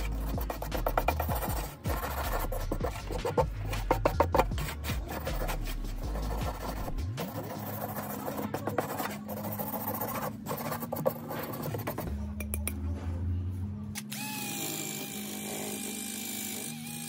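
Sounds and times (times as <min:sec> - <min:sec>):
background music: 0:00.0 - 0:14.1.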